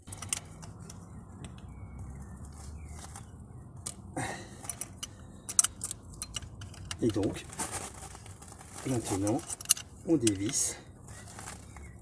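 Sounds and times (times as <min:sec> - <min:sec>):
faint metal clicks and handling: 0:00.0 - 0:01.7, 0:02.8 - 0:11.9.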